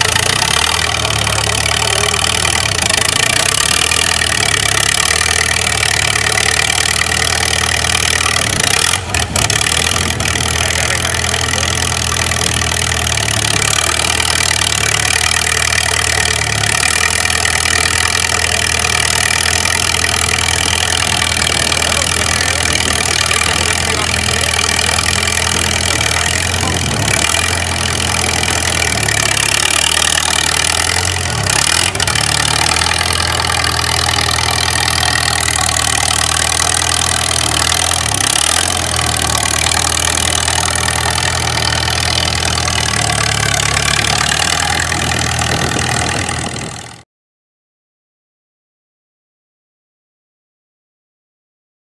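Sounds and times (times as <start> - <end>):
bulldozer engine running: 0.0 - 47.0.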